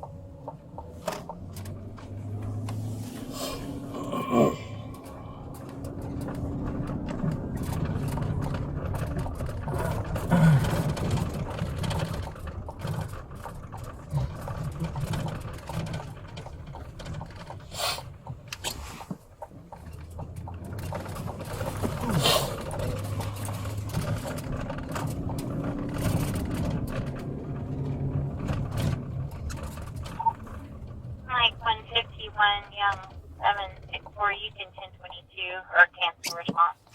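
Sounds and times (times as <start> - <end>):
car engine rumble: 0.0 - 36.9
road noise: 0.0 - 36.9.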